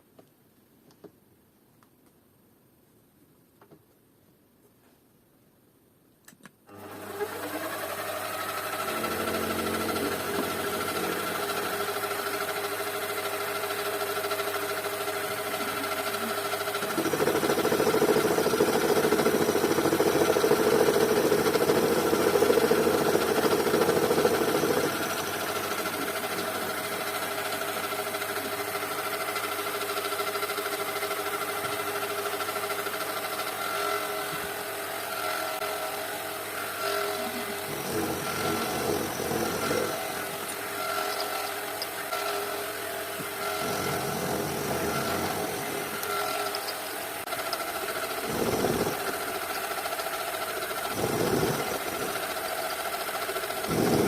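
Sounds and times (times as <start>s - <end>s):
electric power tool motor running: 6.7s - 54.0s.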